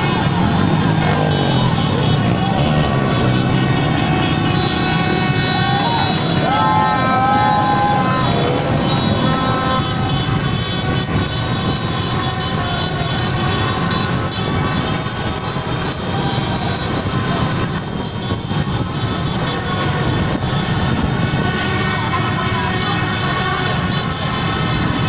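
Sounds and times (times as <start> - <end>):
horns honking: 0.0 - 25.0
motorbike engines running: 0.0 - 25.0.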